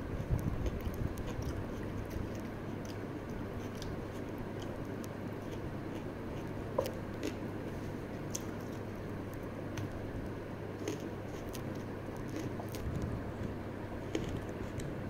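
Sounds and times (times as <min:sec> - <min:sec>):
low background hum: 0:00.0 - 0:15.0
quiet chewing: 0:00.1 - 0:15.0.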